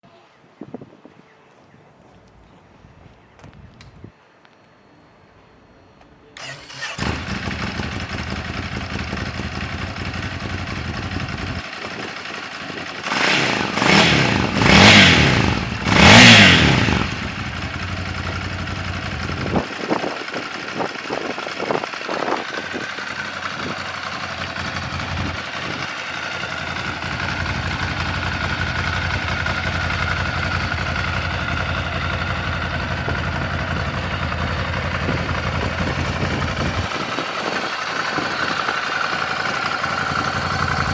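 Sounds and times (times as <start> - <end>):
motorcycle engine starting and revving: 6.4 - 40.9.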